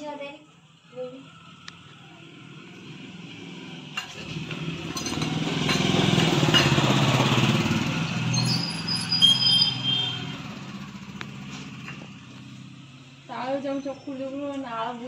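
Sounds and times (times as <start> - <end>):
motorcycle passing by: 1.2 - 15.0.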